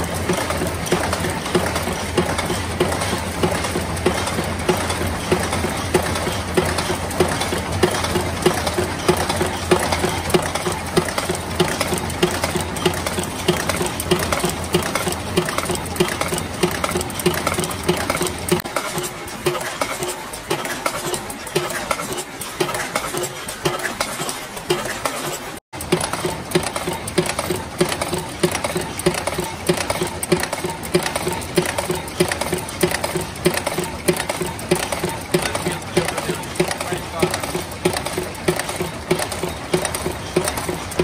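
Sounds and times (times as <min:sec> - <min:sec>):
machine mechanical clatter: 0:00.0 - 0:41.0.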